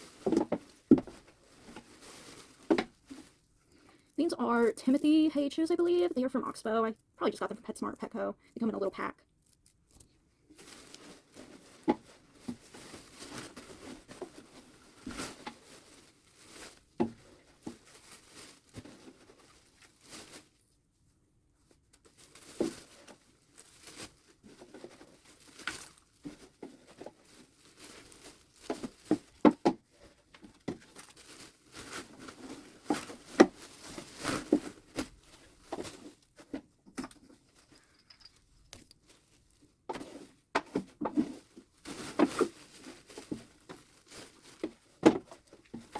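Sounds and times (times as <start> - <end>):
bedding rustling and crinkling: 0.0 - 6.5, 10.5 - 21.0, 21.6 - 45.9.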